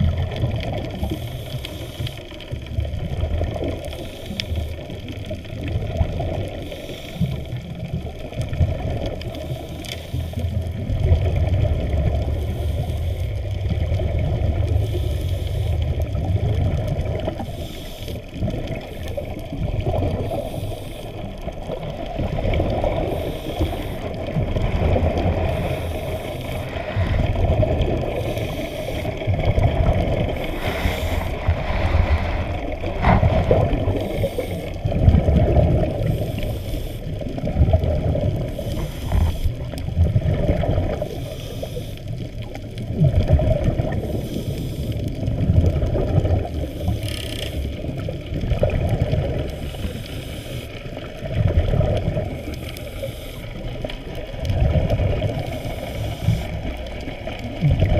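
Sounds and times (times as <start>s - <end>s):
muffled underwater wash: 0.0s - 57.9s.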